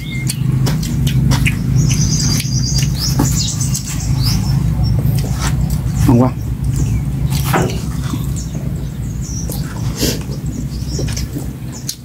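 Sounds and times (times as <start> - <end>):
high bird chirps: 0.0 - 12.0
people chewing and lip-smacking: 0.0 - 12.0
steady low hum: 0.0 - 12.0.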